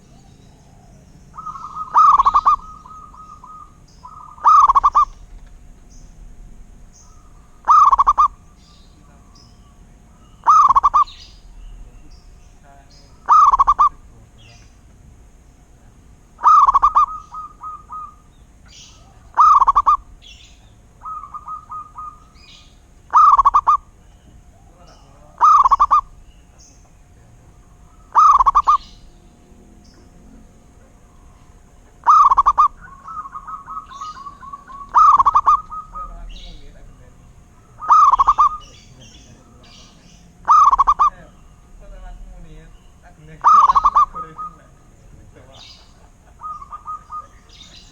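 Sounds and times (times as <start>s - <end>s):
dove cooing: 0.0s - 47.9s
small birds chirping: 0.0s - 47.9s.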